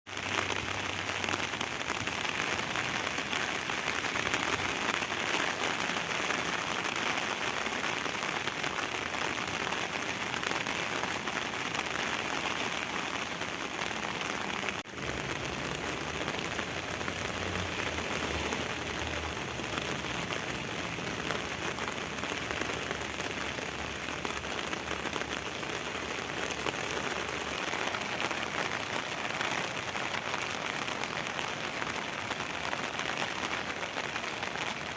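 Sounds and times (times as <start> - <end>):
steady rain patter: 0.1 - 34.9.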